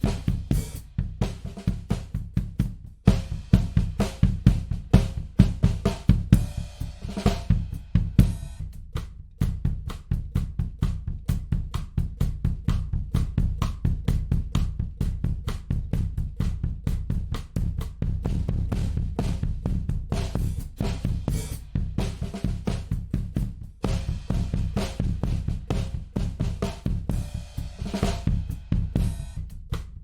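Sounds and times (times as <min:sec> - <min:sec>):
drum kit playing: 0:00.0 - 0:30.0.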